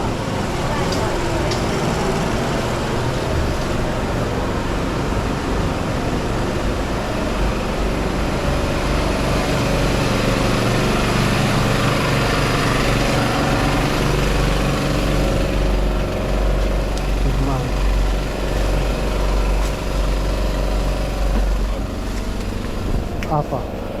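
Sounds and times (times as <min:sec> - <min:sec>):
motor engine humming: 0:00.0 - 0:24.0
street traffic noise: 0:00.0 - 0:24.0.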